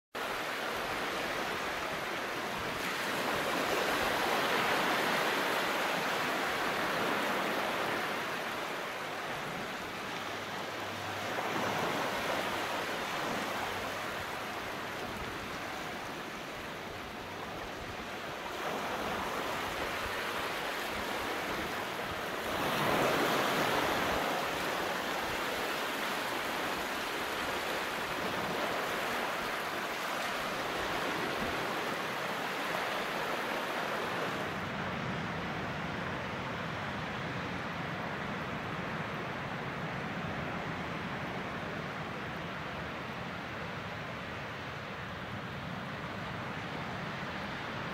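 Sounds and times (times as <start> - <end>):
sea surf washing on shore: 0.2 - 47.9.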